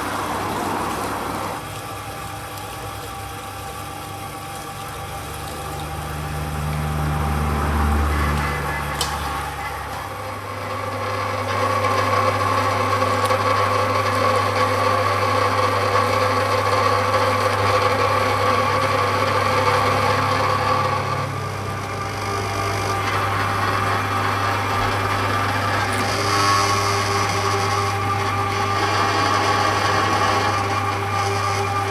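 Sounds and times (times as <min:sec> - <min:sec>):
meat grinder humming and grinding: 0:00.0 - 0:31.9.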